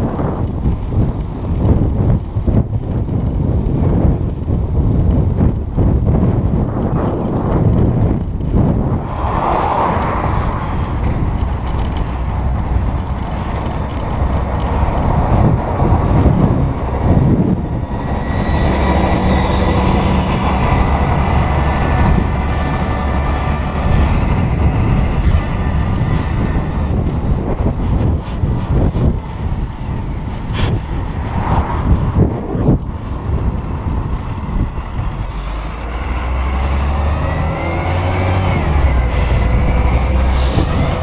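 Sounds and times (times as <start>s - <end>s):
bus engine humming: 0.0s - 41.0s
road traffic noise: 0.0s - 41.0s
wind rushing over microphone: 0.0s - 41.0s.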